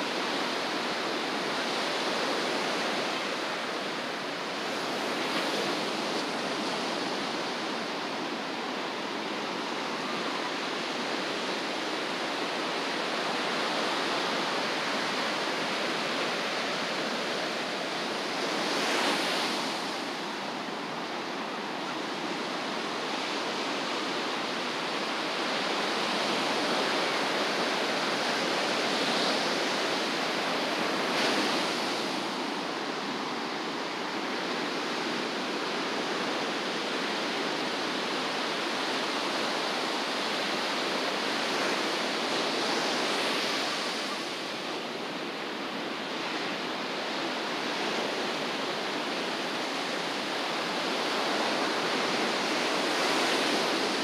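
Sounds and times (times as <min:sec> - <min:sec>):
ocean surf washing onto beach: 0:00.0 - 0:54.0.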